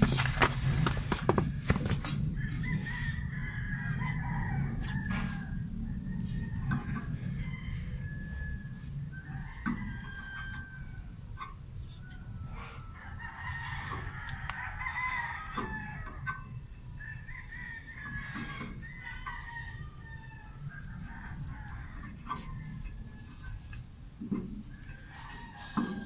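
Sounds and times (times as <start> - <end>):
rooster crowing: 0.0 - 23.9, 24.5 - 26.0.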